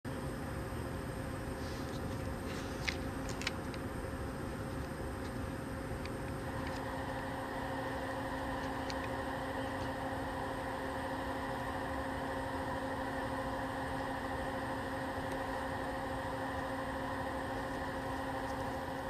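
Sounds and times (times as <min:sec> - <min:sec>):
steady hum: 0:00.1 - 0:19.0
even hiss: 0:01.1 - 0:19.0.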